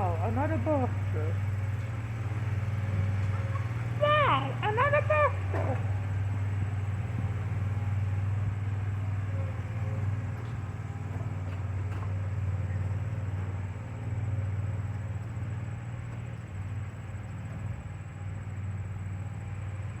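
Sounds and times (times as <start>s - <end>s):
distant lawn mower engine hum: 0.0s - 20.0s.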